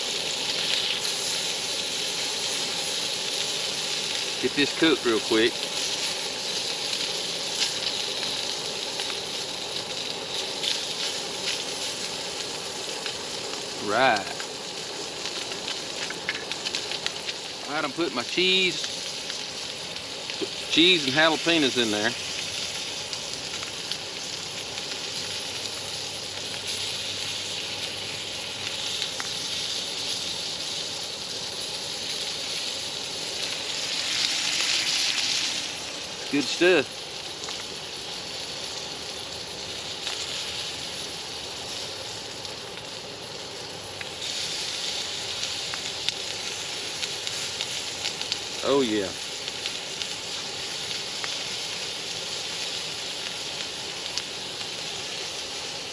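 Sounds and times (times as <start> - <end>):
meat sizzling in skillet: 0.0 - 55.9.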